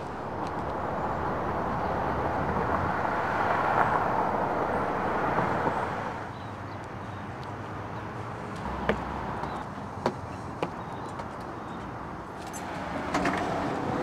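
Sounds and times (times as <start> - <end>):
vehicle passing on road: 0.0 - 14.0.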